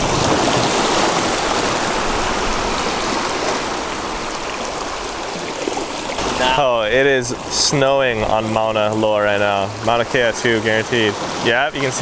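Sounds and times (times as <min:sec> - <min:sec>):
small waves washing over rocks: 0:00.0 - 0:12.0.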